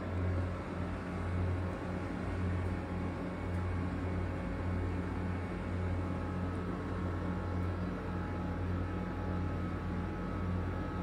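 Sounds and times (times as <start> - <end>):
vending machine refrigeration hum: 0.0 - 11.0.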